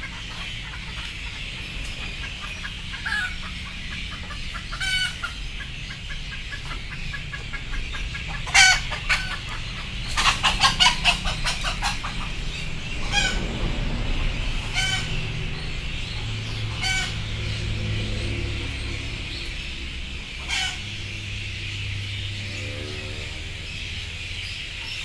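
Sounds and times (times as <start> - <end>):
chicken cackling calls: 0.0 - 25.0
chickens clucking: 0.0 - 25.0.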